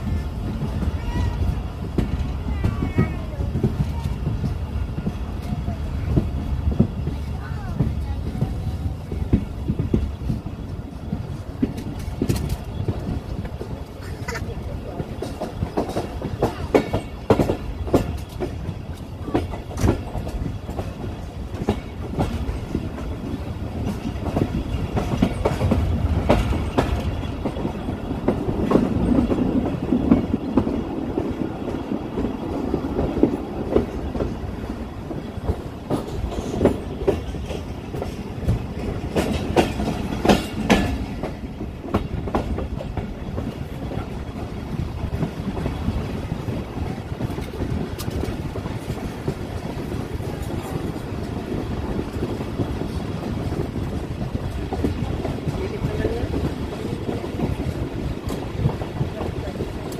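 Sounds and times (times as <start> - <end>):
train coach rumble: 0.0 - 59.9
wheels clattering over rail joints: 0.0 - 59.9.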